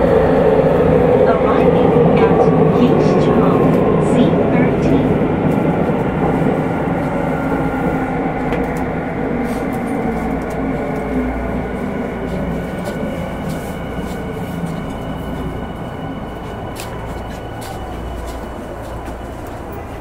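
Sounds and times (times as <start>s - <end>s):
subway train running rumble: 0.0s - 20.0s.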